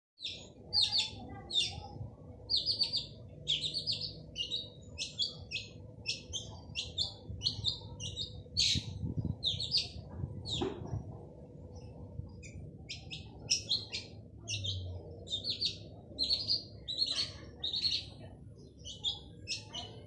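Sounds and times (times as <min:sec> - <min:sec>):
bird singing harsh chirps: 0:00.2 - 0:10.8, 0:11.8 - 0:20.0.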